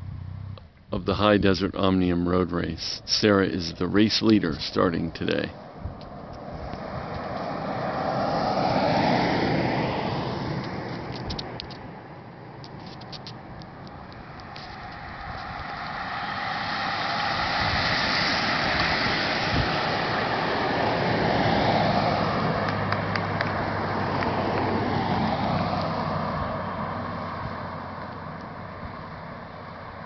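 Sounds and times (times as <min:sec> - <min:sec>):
vehicle engine hum: 0:00.0 - 0:30.0
bicycle tyres and wind rushing: 0:05.5 - 0:30.0.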